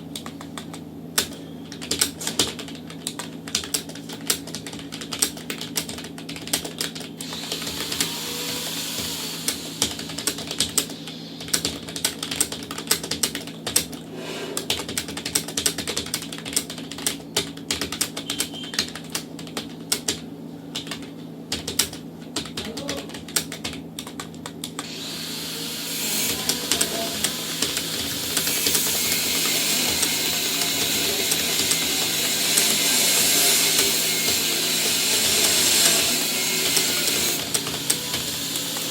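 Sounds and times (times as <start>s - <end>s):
fast keyboard typing: 0.0s - 14.0s, 14.6s - 24.9s, 26.2s - 38.9s.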